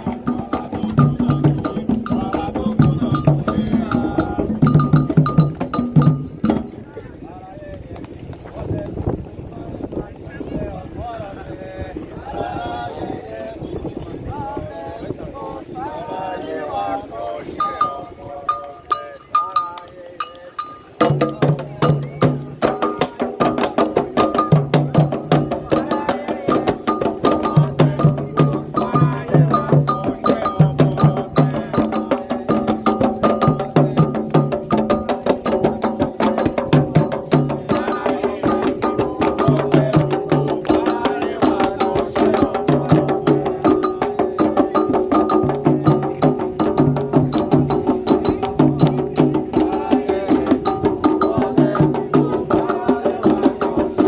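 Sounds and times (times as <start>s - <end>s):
hand drums playing rapid rhythm: 0.0s - 7.0s, 17.5s - 54.0s.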